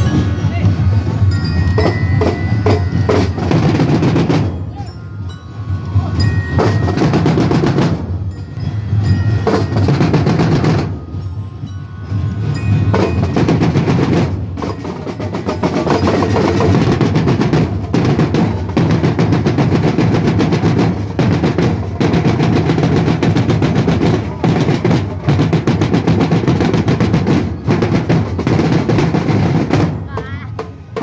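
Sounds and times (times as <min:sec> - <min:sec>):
marching snare drumline: 0:00.1 - 0:04.7, 0:06.5 - 0:08.2, 0:09.3 - 0:11.1, 0:12.8 - 0:31.0.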